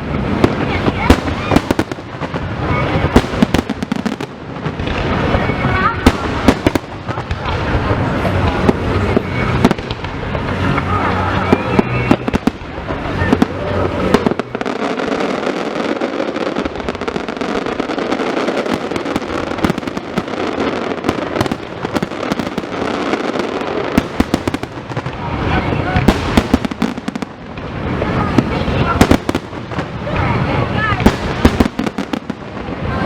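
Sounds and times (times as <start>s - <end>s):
crowd chatter: 0.0s - 33.0s
fireworks cracking and popping: 0.0s - 33.0s
low rumble of bursts: 0.0s - 33.0s.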